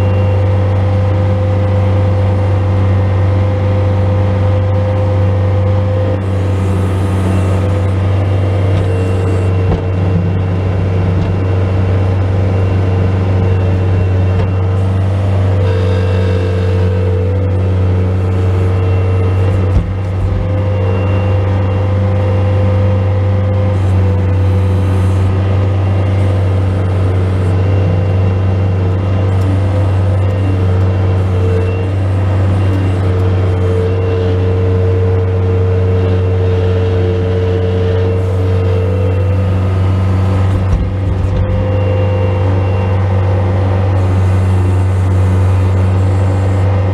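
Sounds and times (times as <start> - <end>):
engine whine: 0.0 - 46.9
loader diesel engine running: 0.0 - 46.9.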